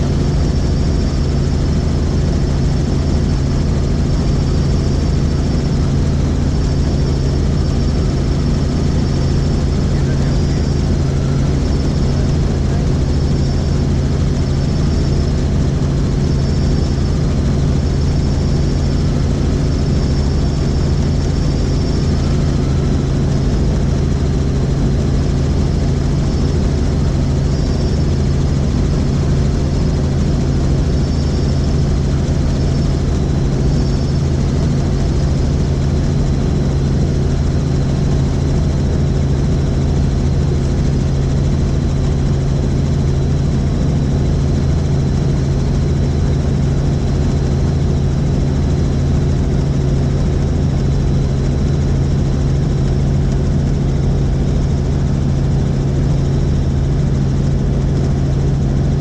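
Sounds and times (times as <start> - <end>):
faint wavering high whine: 0.0 - 59.0
helicopter rotor and engine drone: 0.0 - 59.0.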